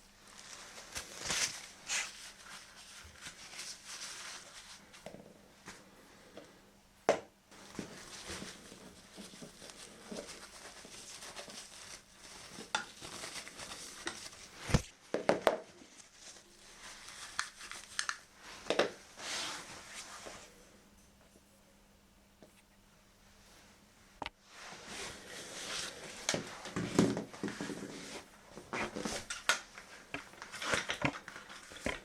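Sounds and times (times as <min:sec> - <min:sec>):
rustling: 0:00.1 - 0:06.3, 0:07.5 - 0:20.7, 0:24.4 - 0:32.0.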